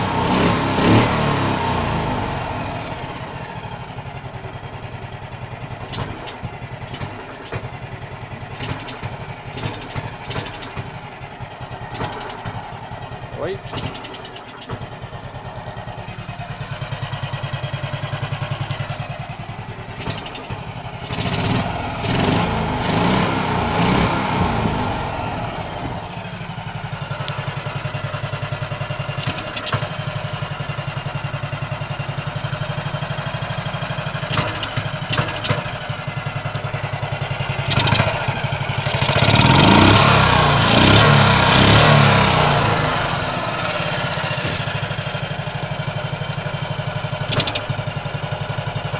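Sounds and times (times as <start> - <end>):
scooter engine idling and revving: 0.0 - 48.9.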